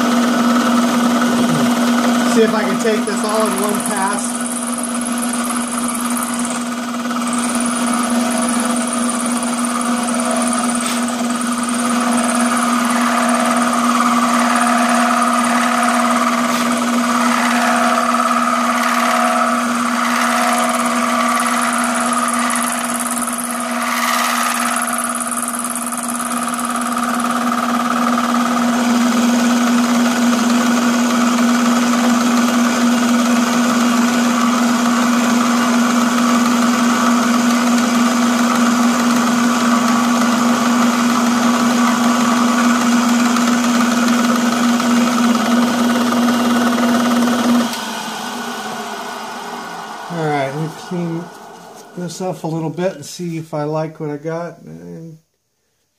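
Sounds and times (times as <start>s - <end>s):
milling cutter cutting metal: 0.0s - 53.0s
motor hum: 0.0s - 53.1s.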